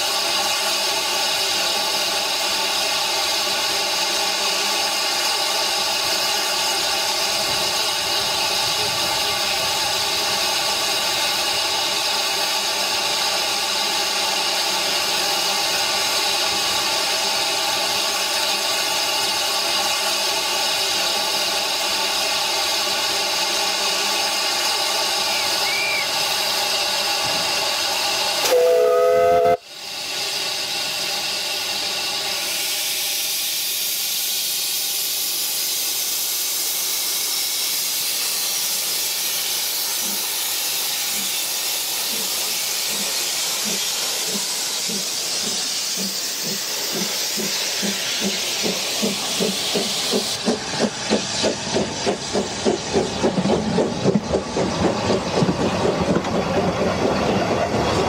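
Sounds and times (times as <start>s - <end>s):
steam hissing from locomotive: 0.0s - 58.0s.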